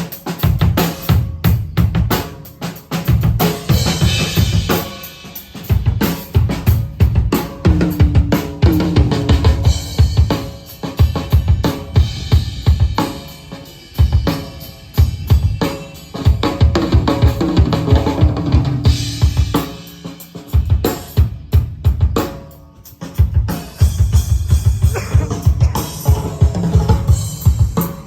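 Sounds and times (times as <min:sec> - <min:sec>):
snare and cymbal hits: 0:00.0 - 0:28.0.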